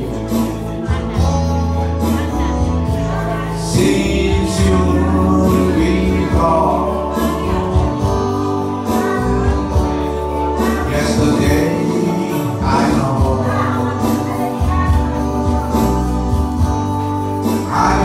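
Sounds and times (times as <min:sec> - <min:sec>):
man singing into a microphone: 0:00.0 - 0:16.7, 0:17.3 - 0:18.0
backing track with bass line: 0:00.0 - 0:18.0.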